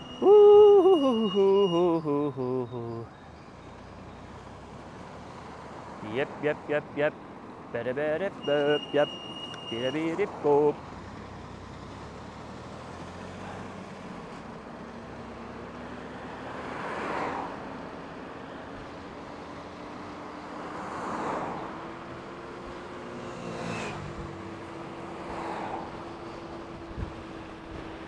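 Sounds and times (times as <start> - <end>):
cars passing: 0.0 - 28.0
road and wind noise: 0.0 - 28.0.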